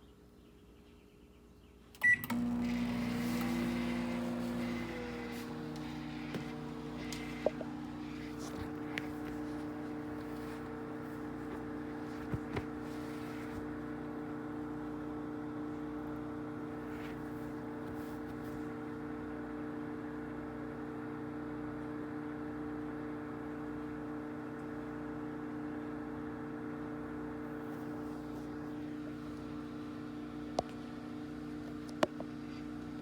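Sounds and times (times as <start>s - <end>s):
microwave oven humming: 1.9s - 33.0s.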